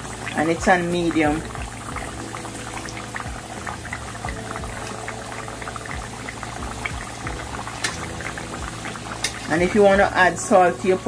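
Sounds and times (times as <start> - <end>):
sweet potato deep-frying in oil: 0.0 - 11.0.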